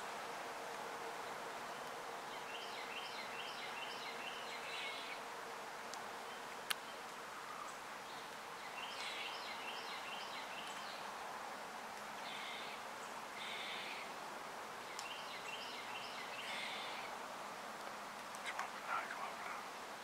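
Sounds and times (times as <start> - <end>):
steady soft hiss: 0.0 - 20.0.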